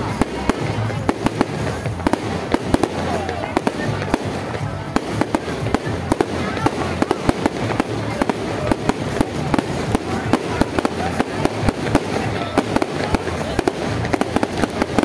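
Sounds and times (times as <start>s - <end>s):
fireworks bangs and crackles: 0.0s - 15.0s
steady wash of noise: 0.0s - 15.0s.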